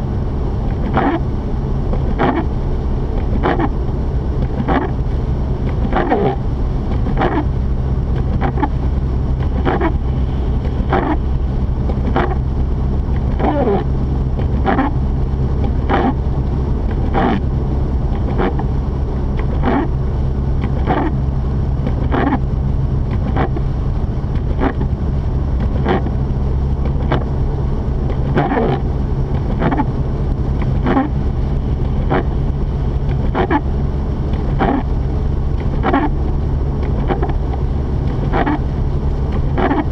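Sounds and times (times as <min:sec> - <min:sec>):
engine and tyres droning: 0:00.0 - 0:39.9
windshield wipers sweeping: 0:00.5 - 0:39.9.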